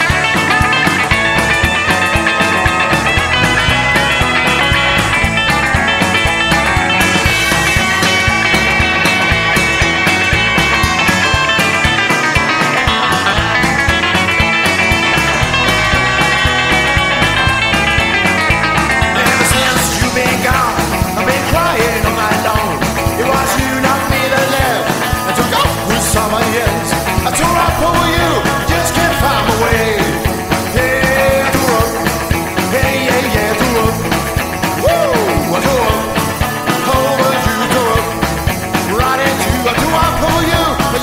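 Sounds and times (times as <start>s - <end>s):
lead guitar sliding bending notes: 0.0s - 41.0s
rockabilly band playing: 0.0s - 41.0s.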